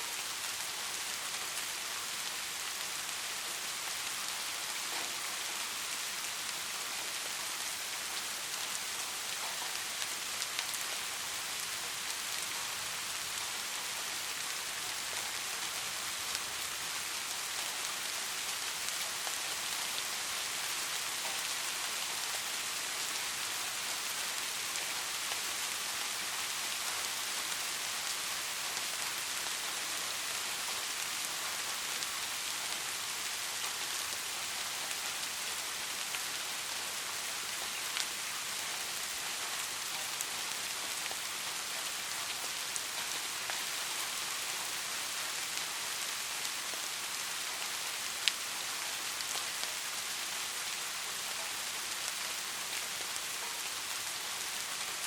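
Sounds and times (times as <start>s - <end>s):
rain hissing: 0.0s - 55.0s
raindrops pattering: 0.2s - 55.0s.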